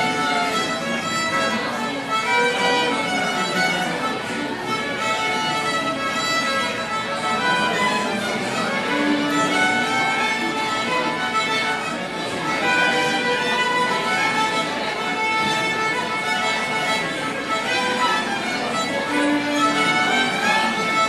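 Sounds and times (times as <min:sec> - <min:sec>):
violin melody: 0:00.0 - 0:21.0.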